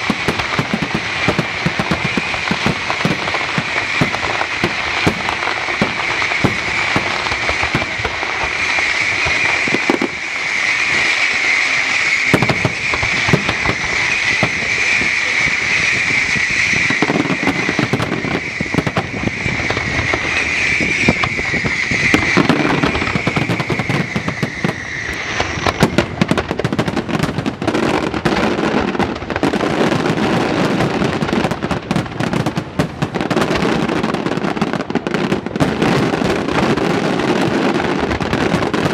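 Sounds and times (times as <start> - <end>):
deep firework booms: 0.0 - 38.9
fireworks crackling and banging: 0.0 - 38.9.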